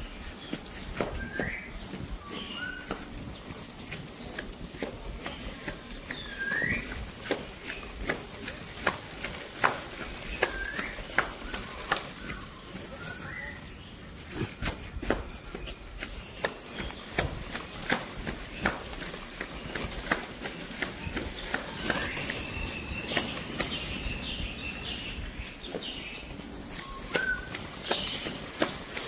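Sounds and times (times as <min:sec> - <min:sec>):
stroller clicks and knocks: 0:00.0 - 0:29.0
stroller rolling over concrete: 0:00.0 - 0:29.0.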